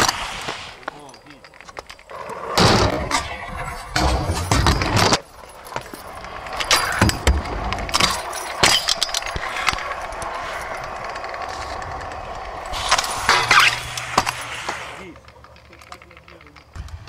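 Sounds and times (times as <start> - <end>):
metallic rattle of scooter: 0.0 - 17.0
scooter wheels rolling on concrete: 0.0 - 17.0
scooter landing clacks: 1.6 - 17.0.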